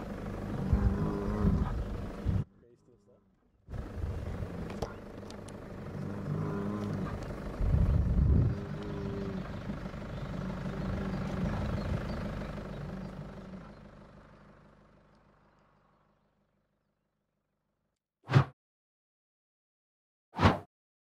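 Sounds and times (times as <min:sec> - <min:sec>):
engine idling: 0:00.0 - 0:17.3.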